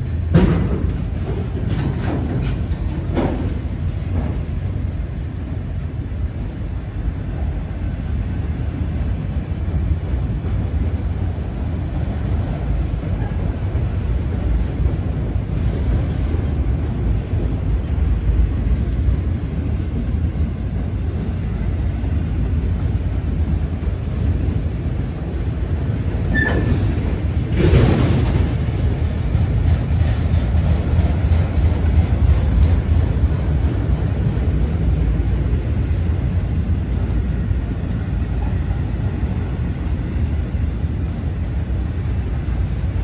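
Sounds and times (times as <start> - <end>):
steel wheels rumbling on rail: 0.0 - 43.0.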